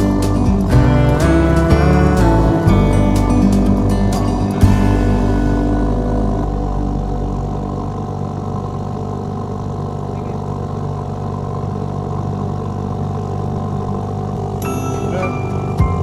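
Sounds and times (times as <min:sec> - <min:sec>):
engine running at low revs: 0:00.0 - 0:14.6.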